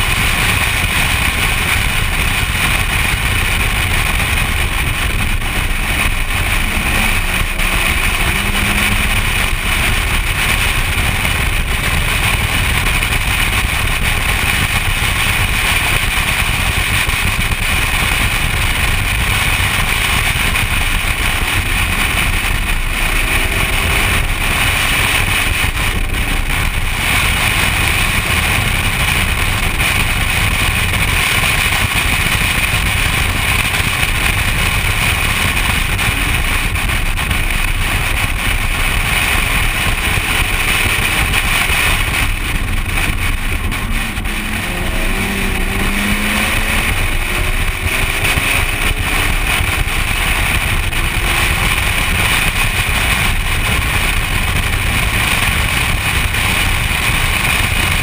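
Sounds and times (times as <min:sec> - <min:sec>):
wind noise: 0:00.0 - 0:58.0
car engine from inside: 0:00.5 - 0:31.7, 0:32.4 - 0:58.0.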